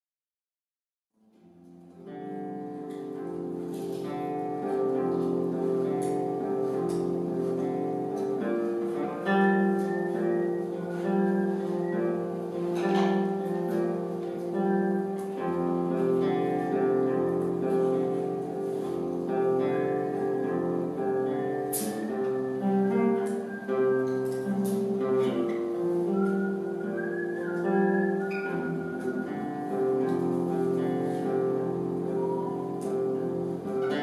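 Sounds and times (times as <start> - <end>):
instrumental guitar music: 1.2 - 34.0.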